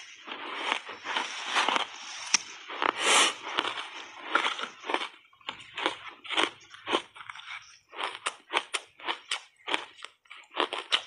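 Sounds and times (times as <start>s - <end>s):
ice crunching between teeth: 0.0s - 11.0s.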